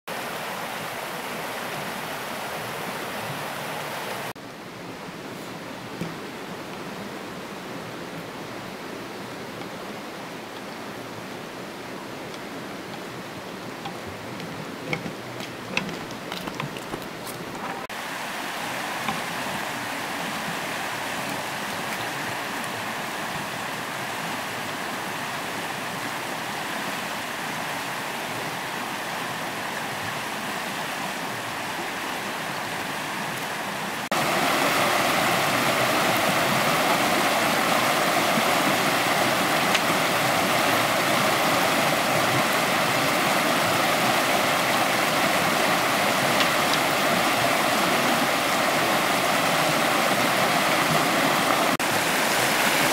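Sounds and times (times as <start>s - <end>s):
flowing water rushing: 0.1s - 52.9s.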